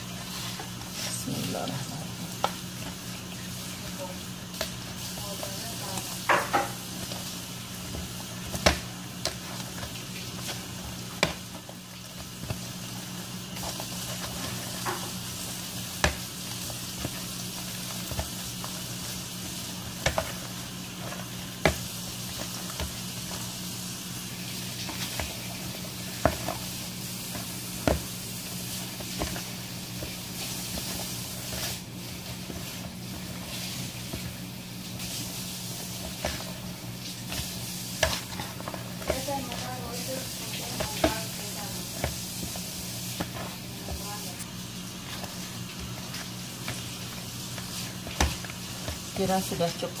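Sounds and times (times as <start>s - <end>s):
dough slapping against bowl: 4.5s - 23.5s, 24.6s - 50.0s.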